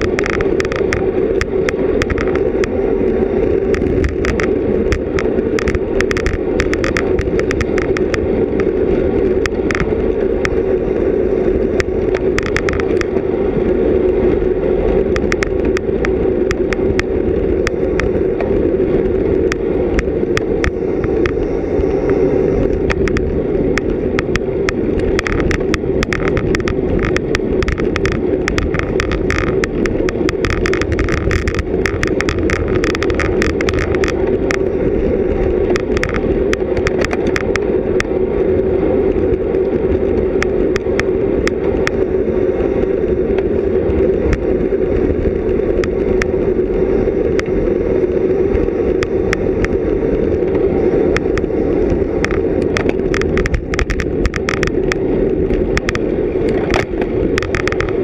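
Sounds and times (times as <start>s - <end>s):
sharp clicks and rattles: 0.0s - 58.0s
wind and road noise: 0.0s - 58.0s.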